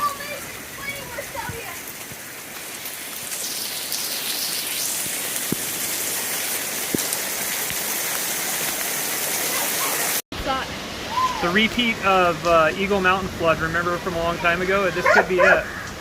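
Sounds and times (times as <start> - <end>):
torrential rain pouring: 0.0 - 16.0.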